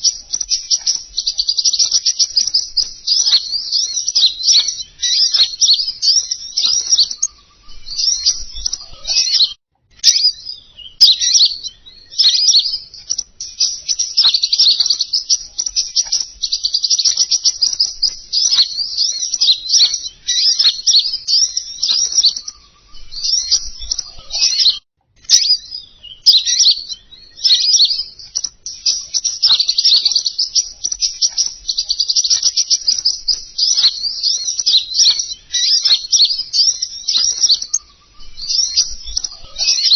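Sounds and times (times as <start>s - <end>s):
songbird twittering chirps: 0.0s - 39.9s.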